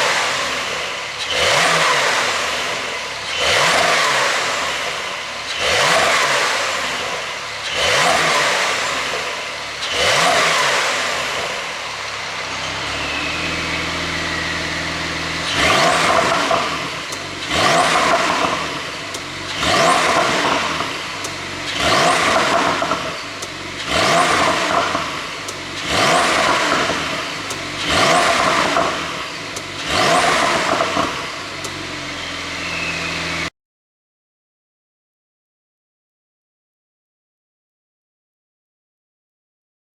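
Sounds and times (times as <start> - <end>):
car engine idling: 0.0 - 33.5
car engine revving: 0.0 - 33.5.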